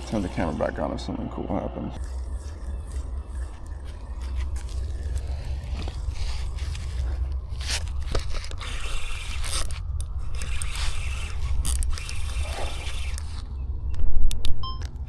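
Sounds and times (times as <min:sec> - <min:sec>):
handling noise scraping: 0:00.0 - 0:01.3, 0:02.0 - 0:13.5.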